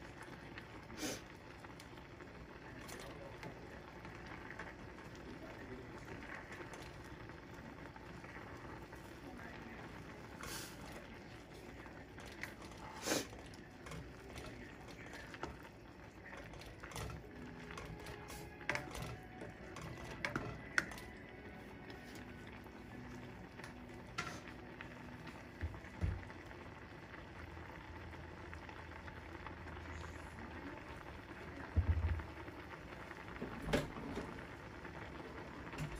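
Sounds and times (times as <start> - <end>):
pot of noodles boiling: 0.0 - 35.9.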